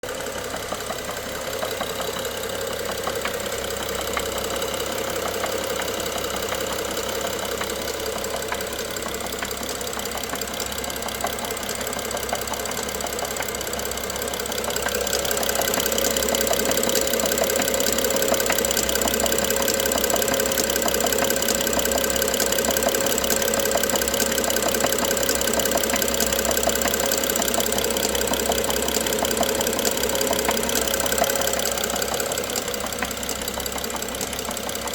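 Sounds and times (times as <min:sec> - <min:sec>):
car engine running with knock: 0:00.0 - 0:34.9.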